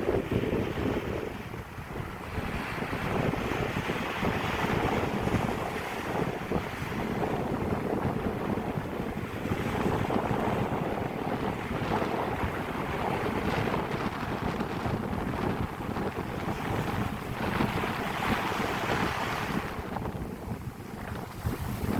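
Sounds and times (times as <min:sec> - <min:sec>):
waves washing: 0:00.0 - 0:21.9
wind buffeting microphone: 0:00.0 - 0:21.9.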